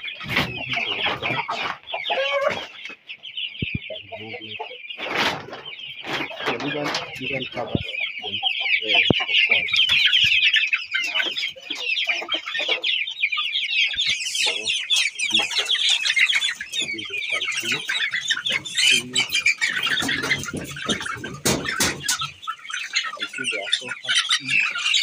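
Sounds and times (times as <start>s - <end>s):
lower clucks: 0.0s - 13.0s, 13.9s - 25.0s
young chickens peeping: 0.0s - 25.0s.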